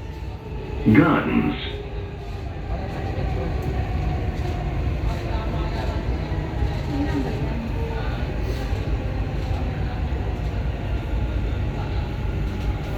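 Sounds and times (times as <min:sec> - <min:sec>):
metro train rumbling: 0:00.0 - 0:12.9.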